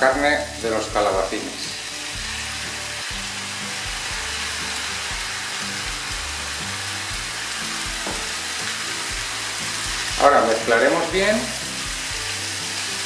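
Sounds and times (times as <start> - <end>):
background music: 0.0 - 13.0
vegetables sizzling in frying pan: 0.0 - 13.0.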